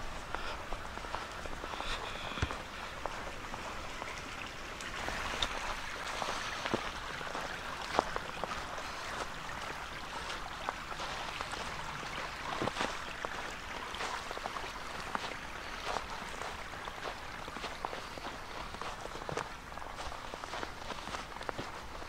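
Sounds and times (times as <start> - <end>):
creek rushing: 0.0 - 22.0
footsteps in snow: 0.0 - 22.0.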